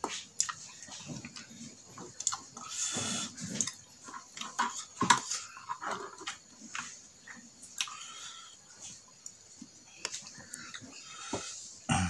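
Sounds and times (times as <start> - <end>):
chewing and wet mouth noises: 0.0 - 11.3.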